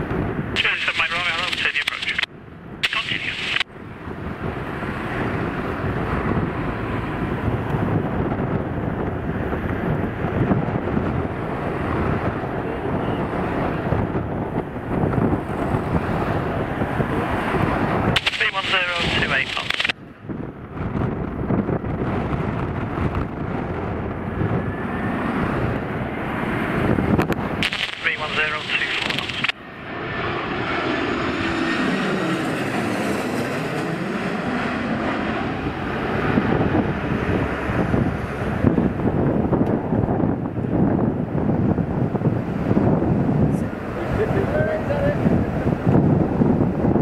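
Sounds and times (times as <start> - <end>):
wind buffeting microphone: 0.0 - 0.9, 1.6 - 47.0
jet engines rumbling: 0.0 - 47.0.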